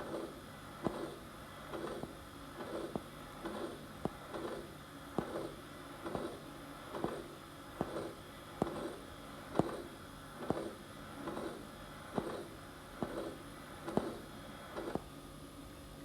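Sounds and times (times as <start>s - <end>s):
heartbeat with murmur: 0.0s - 15.0s.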